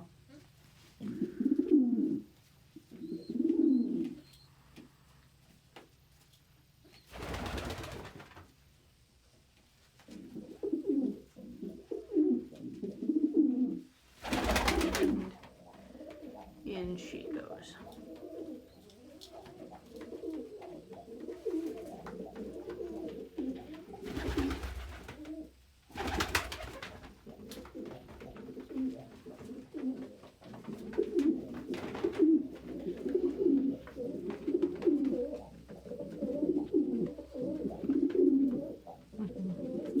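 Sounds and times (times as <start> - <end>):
pigeons cooing: 0.4 - 4.4, 10.1 - 16.6, 17.2 - 40.0.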